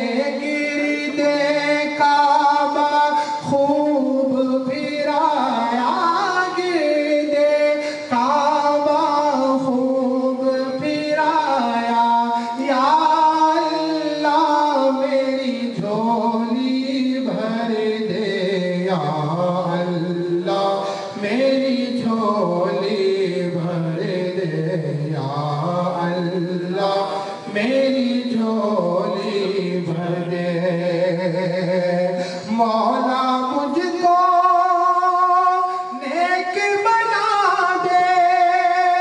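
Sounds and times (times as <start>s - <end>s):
man singing unaccompanied: 0.0s - 39.0s.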